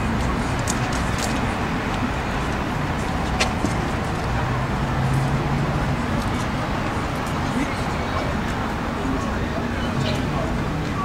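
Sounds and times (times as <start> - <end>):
rumbling background noise: 0.0 - 11.0.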